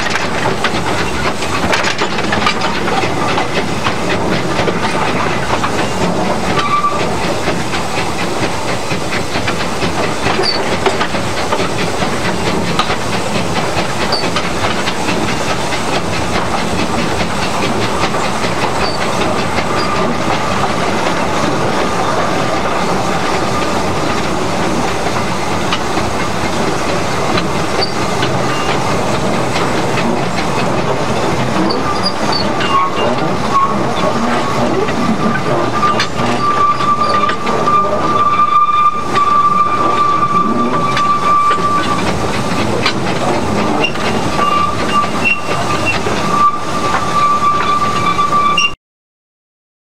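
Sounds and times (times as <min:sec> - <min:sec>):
steam hissing: 0:00.0 - 0:48.3
steam engine running: 0:00.0 - 0:48.6
wheels on rails: 0:00.0 - 0:48.8.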